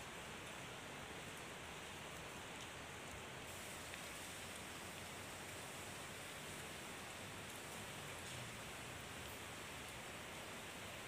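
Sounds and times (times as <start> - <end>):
faint outdoor background hiss: 0.0 - 11.0.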